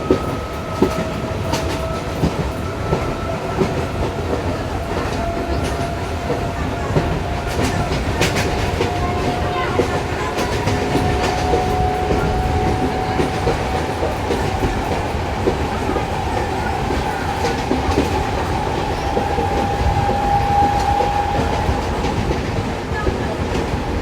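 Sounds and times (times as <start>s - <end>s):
train rumbling: 0.0s - 24.0s
wheels clicking over rail joints: 0.0s - 24.0s.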